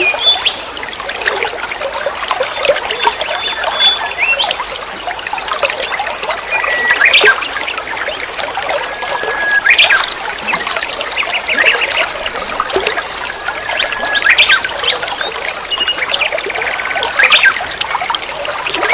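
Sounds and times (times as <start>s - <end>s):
songbird singing: 0.0s - 1.0s, 2.9s - 4.6s, 5.7s - 18.9s.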